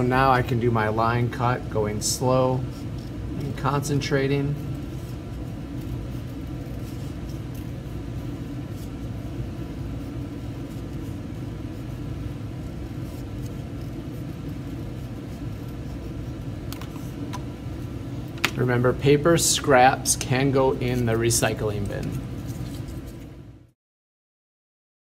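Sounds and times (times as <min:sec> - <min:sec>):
steady low rumble: 0:00.0 - 0:23.7.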